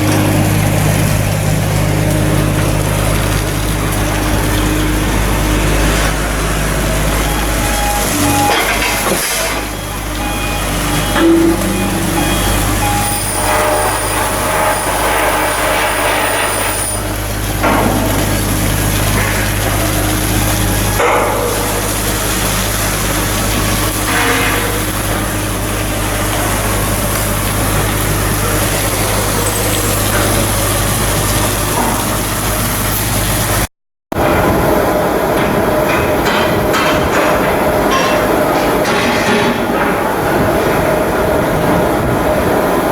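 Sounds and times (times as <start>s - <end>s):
bursts of machinery noise: 0.0s - 42.9s
heavy machinery humming: 0.0s - 42.9s.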